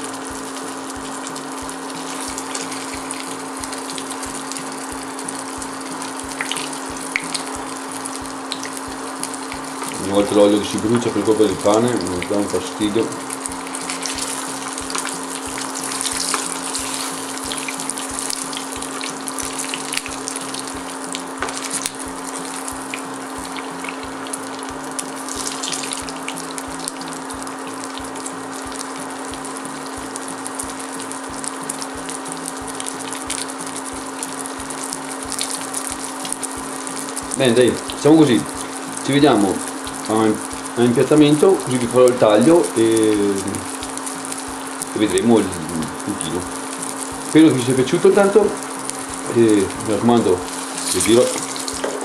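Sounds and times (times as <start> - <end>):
meat sizzling in oil: 0.0 - 52.0.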